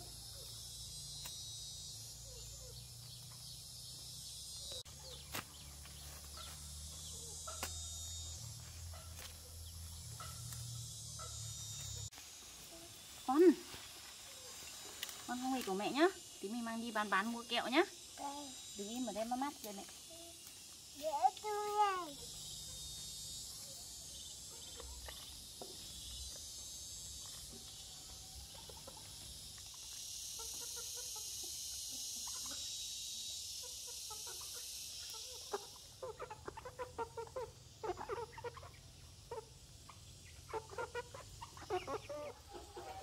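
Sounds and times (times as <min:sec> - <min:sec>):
high buzzing of insects: 0:00.0 - 0:43.0.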